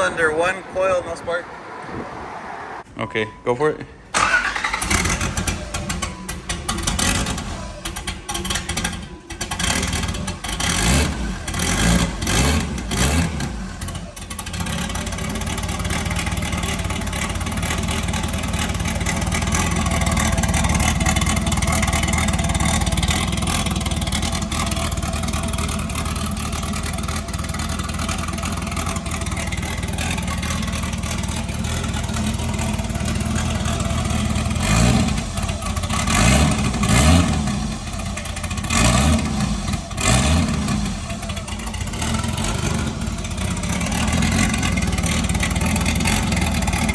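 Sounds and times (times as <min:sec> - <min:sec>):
car engine running and revving: 0:04.8 - 0:46.9.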